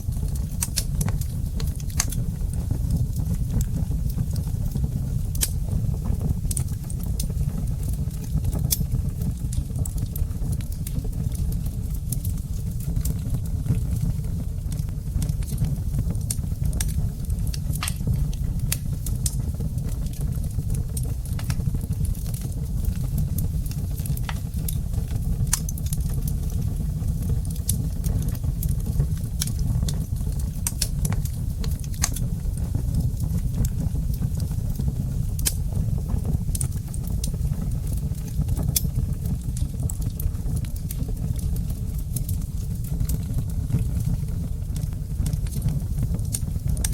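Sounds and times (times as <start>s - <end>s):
low rumble of flames: 0.0s - 46.9s
wood fire crackling: 0.0s - 46.9s.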